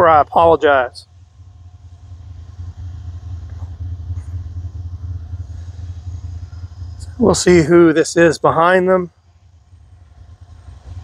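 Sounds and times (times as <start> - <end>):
vehicle engine rumble passing: 0.0 - 11.0.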